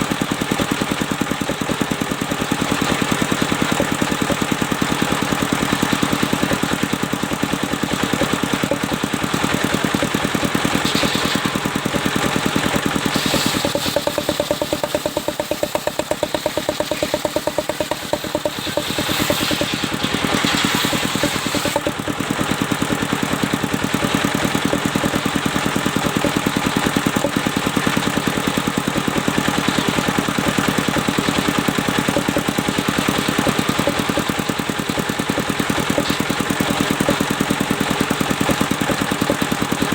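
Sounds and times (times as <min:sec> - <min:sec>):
sawmill machinery pulsing: 0:00.0 - 0:39.9.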